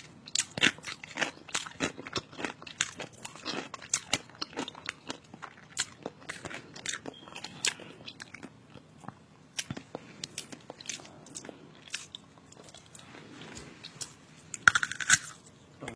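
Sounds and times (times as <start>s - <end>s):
person chewing crunchy food: 0.0s - 15.5s.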